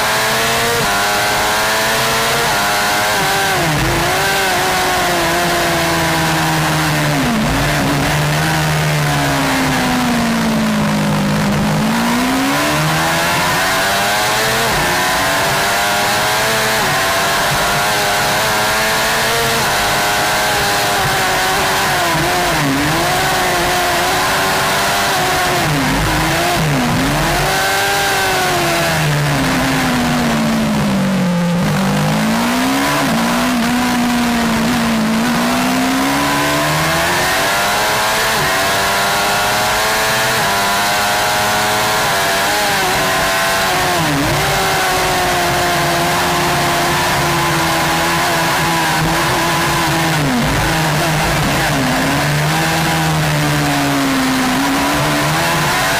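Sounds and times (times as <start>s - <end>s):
motorcycle engine at high revs: 0.0s - 55.9s.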